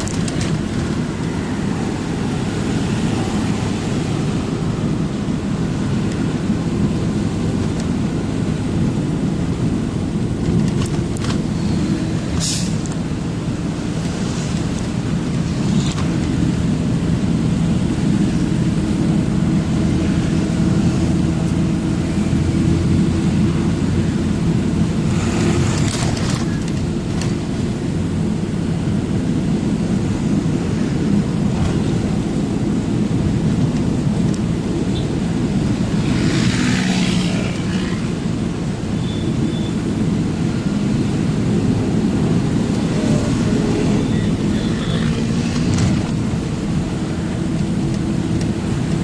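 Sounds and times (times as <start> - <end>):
truck engine drone: 0.0 - 49.0.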